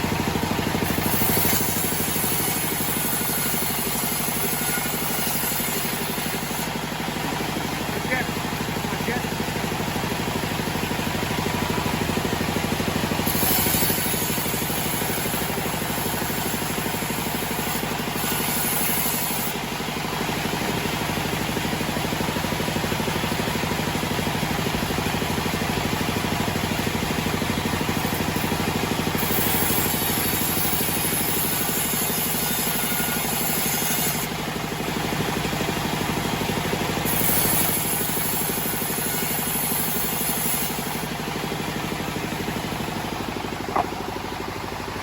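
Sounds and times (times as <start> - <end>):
band sawmill humming: 0.0 - 45.0.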